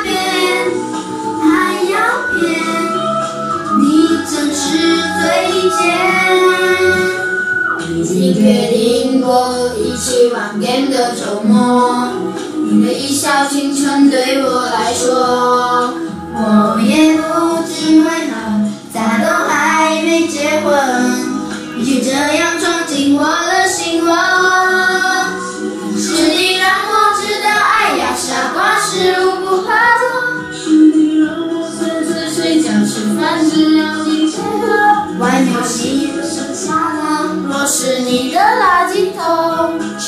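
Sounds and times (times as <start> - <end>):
children singing: 0.0 - 40.0.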